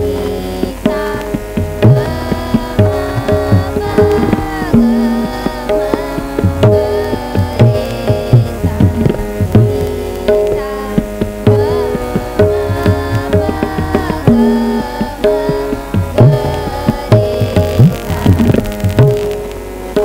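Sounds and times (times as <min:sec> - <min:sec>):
girls singing in unison: 0:00.0 - 0:19.3
tabla drums: 0:00.0 - 0:20.0.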